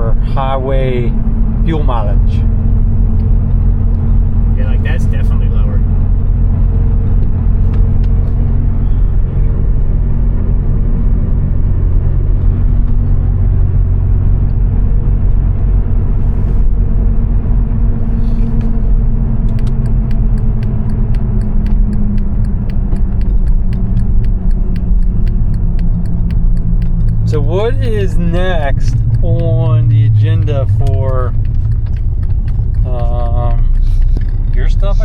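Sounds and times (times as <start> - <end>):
car engine and road drone: 0.0 - 35.0
even ticking: 0.0 - 35.0.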